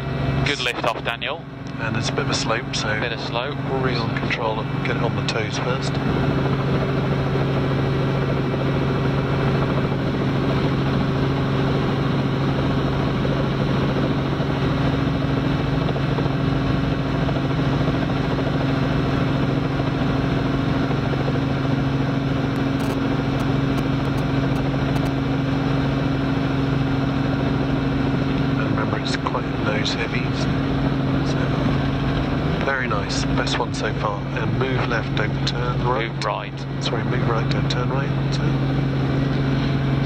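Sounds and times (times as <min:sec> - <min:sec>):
helicopter rotor and engine drone: 0:00.0 - 0:40.0.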